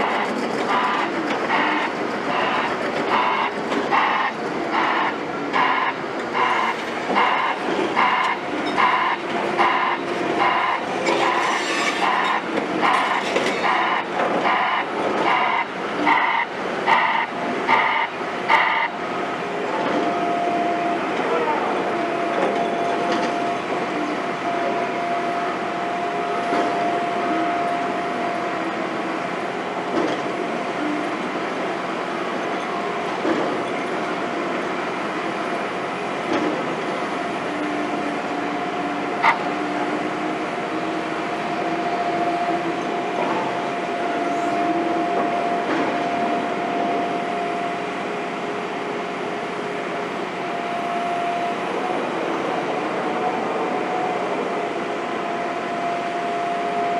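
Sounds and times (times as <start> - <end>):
heavy machinery running: 0.0 - 56.9.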